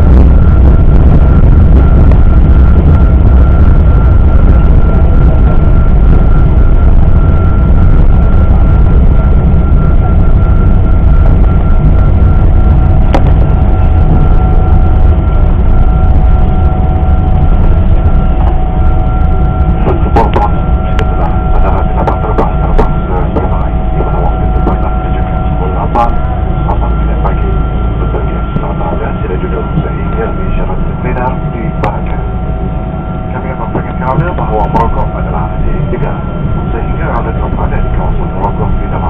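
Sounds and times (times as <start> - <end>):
airplane cabin rumble: 0.0 - 39.0
high whine: 0.0 - 39.0.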